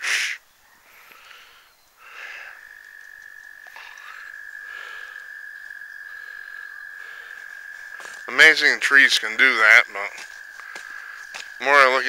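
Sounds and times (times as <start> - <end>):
frog trilling: 2.0 - 12.0.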